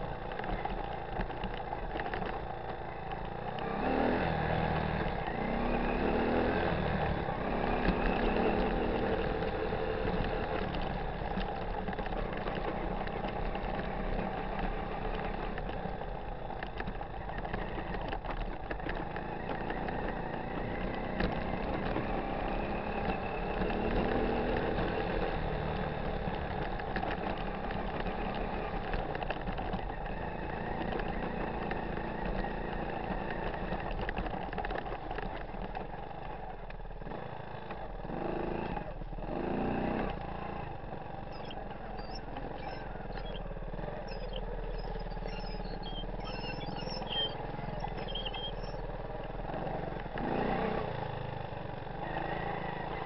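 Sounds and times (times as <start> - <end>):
three-wheeler engine running: 0.0 - 53.0.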